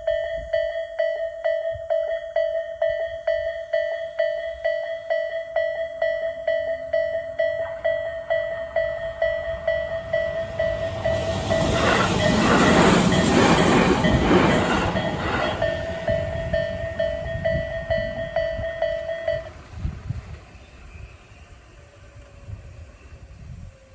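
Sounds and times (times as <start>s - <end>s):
electronic crossing bell dinging: 0.0s - 19.9s
train passing: 0.0s - 23.9s.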